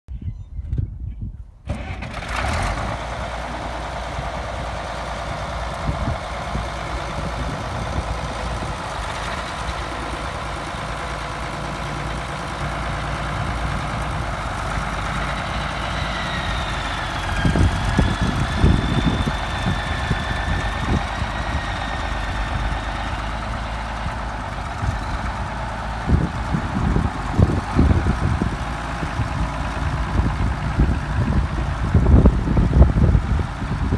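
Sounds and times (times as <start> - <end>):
tractor engine running: 1.6 - 33.9.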